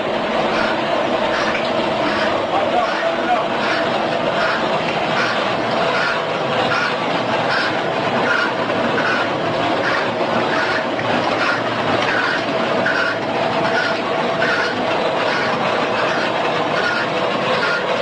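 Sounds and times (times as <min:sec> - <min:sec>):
rhythmic mechanical clattering: 0:00.0 - 0:18.0.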